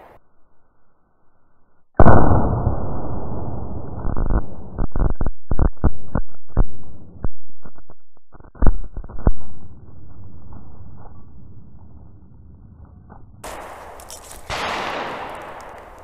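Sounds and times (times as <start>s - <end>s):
slowed down gunshot boom: 2.0s - 16.0s.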